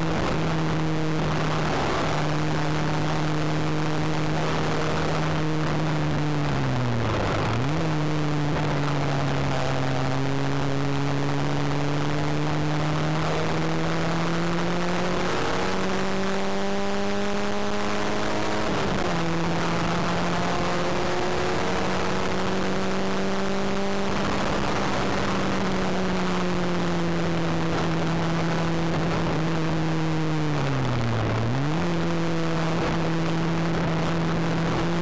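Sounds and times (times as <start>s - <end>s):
car engine heard from inside cabin: 0.0s - 35.0s.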